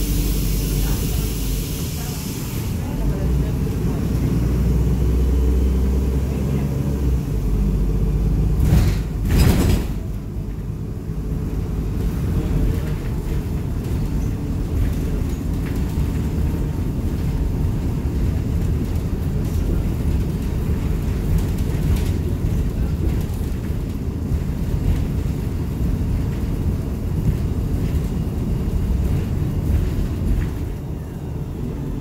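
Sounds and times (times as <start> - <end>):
bus interior drone: 0.0 - 32.0.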